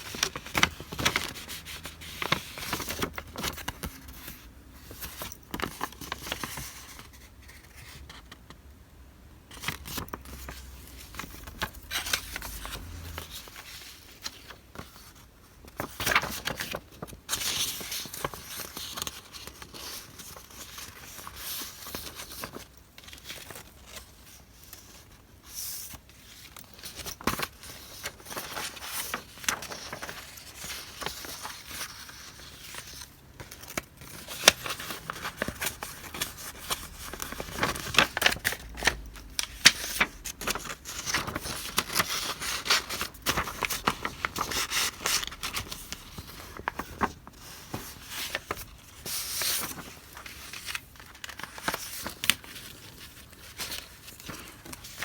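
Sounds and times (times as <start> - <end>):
paper rustling and crinkling: 0.0 - 8.5, 9.5 - 55.0.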